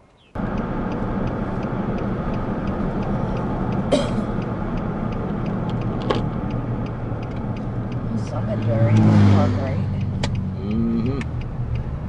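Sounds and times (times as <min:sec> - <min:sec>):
car engine and road rumble: 0:00.0 - 0:12.0
light even ticking: 0:00.3 - 0:12.0.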